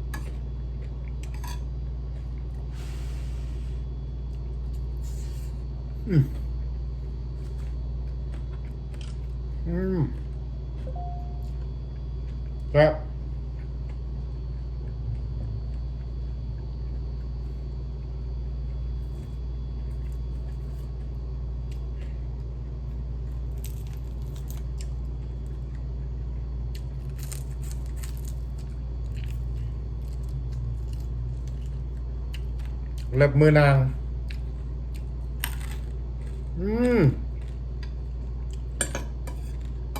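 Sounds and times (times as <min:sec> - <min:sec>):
steady low hum: 0:00.0 - 0:39.9
crunchy chewing: 0:04.2 - 0:33.1, 0:34.1 - 0:39.9.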